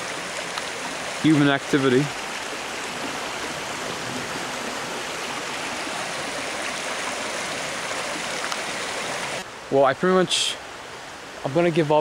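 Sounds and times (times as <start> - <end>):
stream running water: 0.0 - 12.0.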